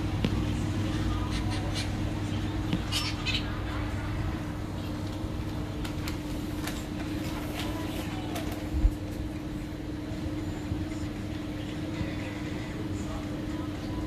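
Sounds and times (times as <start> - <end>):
indoor room hum and rumble: 0.0 - 14.0.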